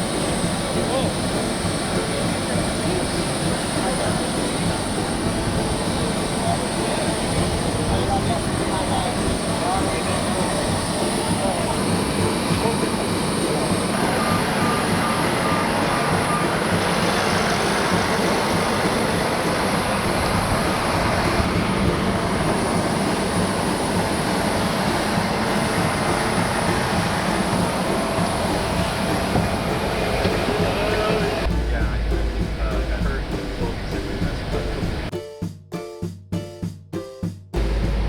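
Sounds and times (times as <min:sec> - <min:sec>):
large vehicle running: 0:00.0 - 0:35.1, 0:37.6 - 0:38.0.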